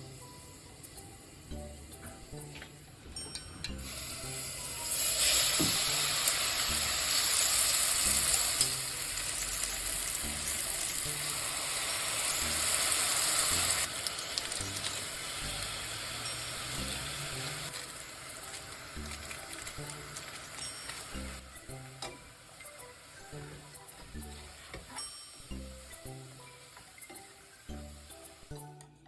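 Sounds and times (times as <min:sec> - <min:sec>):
food sizzling in a pan: 0:03.8 - 0:28.6.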